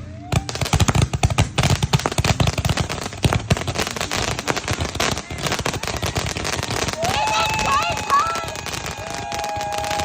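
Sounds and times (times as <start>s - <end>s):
firecrackers popping: 0.3s - 10.0s.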